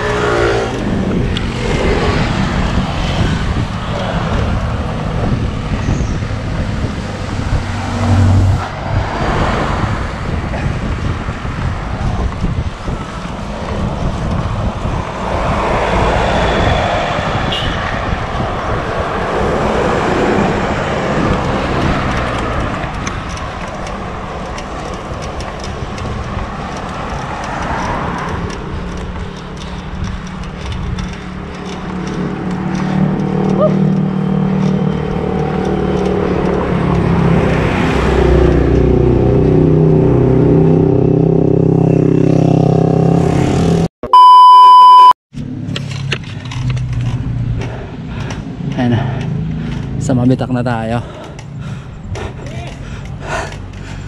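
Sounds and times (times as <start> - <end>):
wind rumble on microphone: 0.0 - 43.8
motor vehicles passing close by: 0.0 - 43.9, 45.3 - 54.0.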